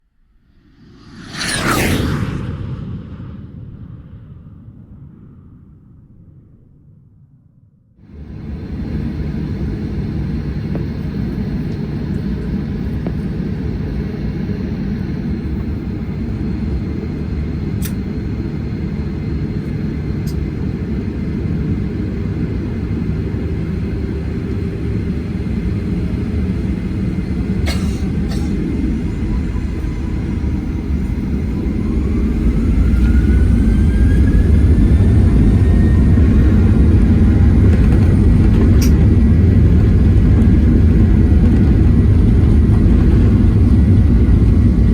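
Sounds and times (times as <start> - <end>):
rising engine whine: 0.3 - 6.5, 8.0 - 44.9
airplane cabin rumble: 0.5 - 7.2, 8.0 - 44.9.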